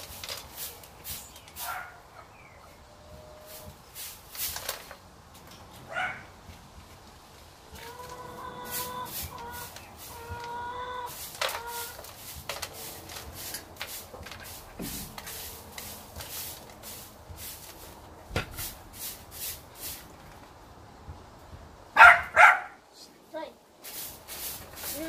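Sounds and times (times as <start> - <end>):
broom sweeping dirt floor: 0.0 - 20.6, 23.3 - 25.0.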